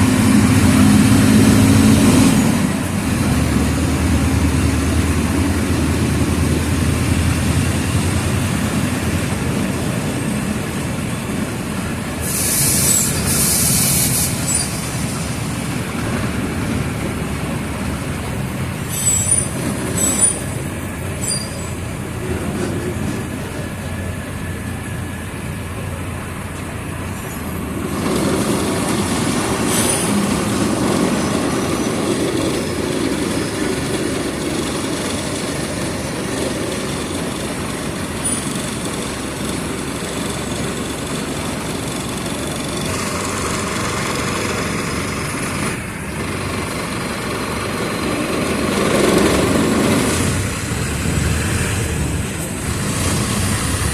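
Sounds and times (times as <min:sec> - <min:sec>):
bus diesel engine running: 0:00.0 - 0:53.9
road rumble: 0:00.0 - 0:53.9.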